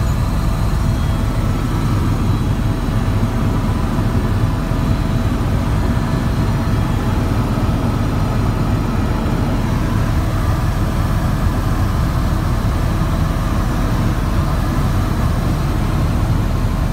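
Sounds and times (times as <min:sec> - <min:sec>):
helicopter engine and rotors: 0:00.0 - 0:16.9.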